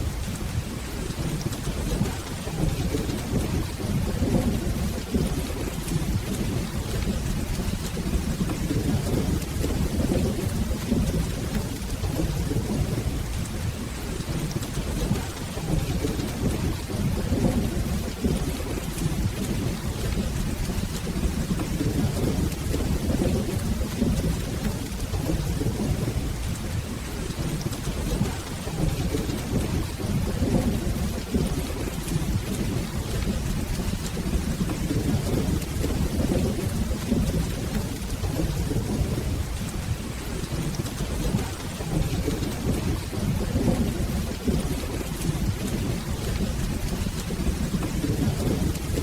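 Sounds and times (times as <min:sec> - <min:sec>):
rolling thunder rumble: 0:00.0 - 0:49.0
steady rain: 0:00.0 - 0:49.0.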